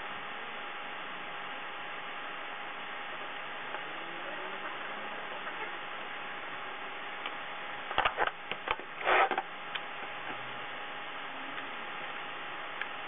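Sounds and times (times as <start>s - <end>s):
faint hum and hiss: 0.0s - 13.0s.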